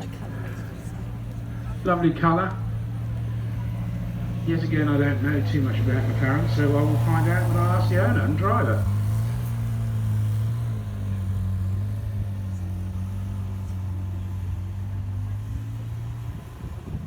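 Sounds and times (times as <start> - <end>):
car engine humming at low revs: 0.0 - 17.0.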